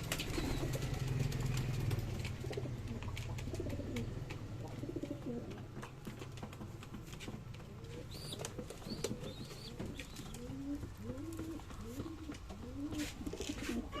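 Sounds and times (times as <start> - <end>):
pigeons cooing: 0.0 - 5.8, 7.6 - 14.0.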